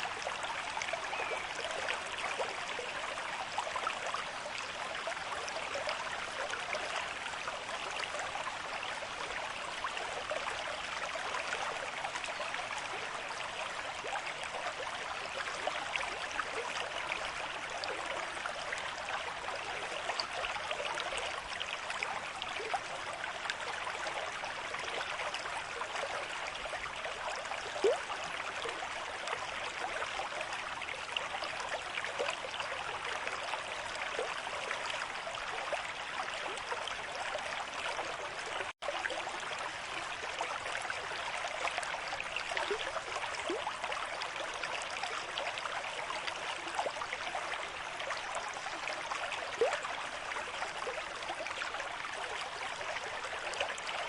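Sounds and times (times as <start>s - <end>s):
river stream flowing: 0.0s - 54.0s.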